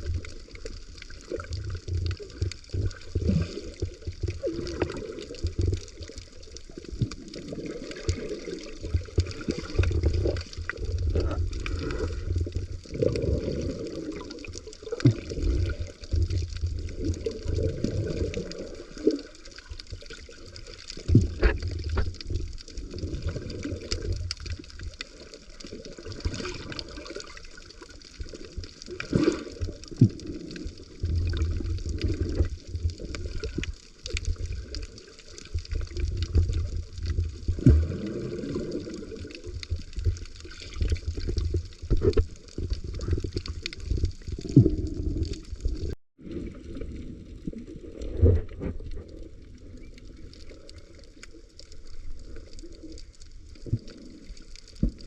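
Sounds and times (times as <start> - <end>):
water sloshing underwater: 0.0 - 55.0.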